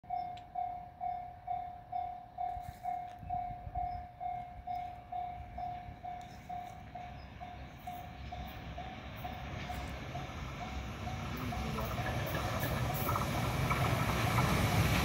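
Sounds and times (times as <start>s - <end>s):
train rumble: 0.1s - 15.0s.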